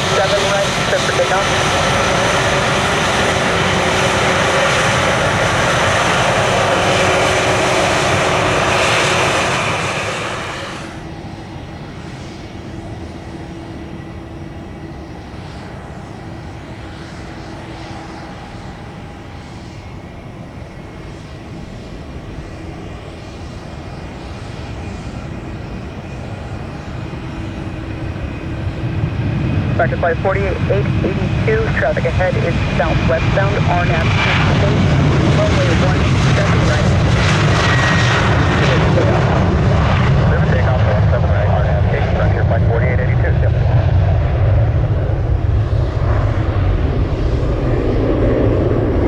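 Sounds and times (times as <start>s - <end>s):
airliner engines roaring: 0.0s - 49.0s.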